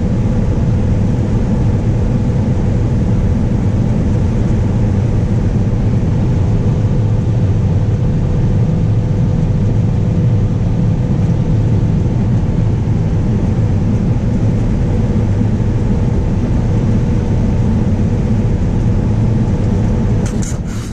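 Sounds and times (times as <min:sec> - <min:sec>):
combine harvester drone: 0:00.0 - 0:20.9
faint steady machine whine: 0:00.0 - 0:20.9.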